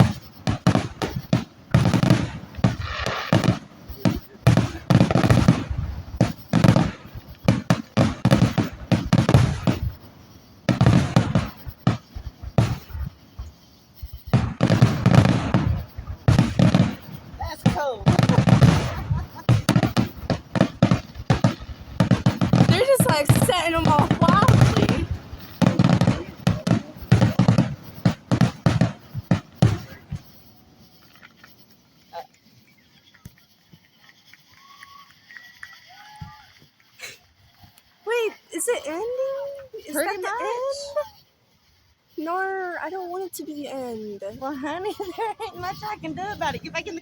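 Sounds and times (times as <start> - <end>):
fireworks booming and crackling: 0.0 - 47.0.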